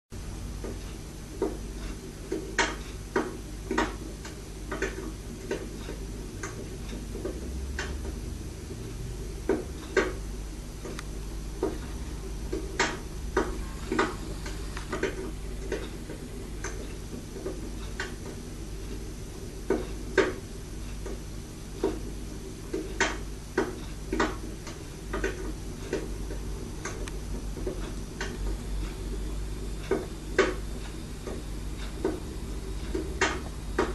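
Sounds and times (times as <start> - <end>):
steady low hum: 0.2 - 33.9.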